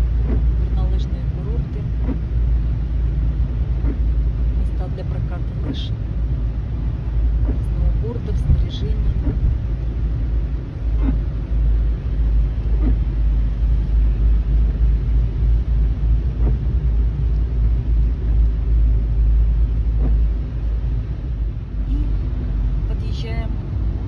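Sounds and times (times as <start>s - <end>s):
car road noise rumble: 0.0s - 24.0s.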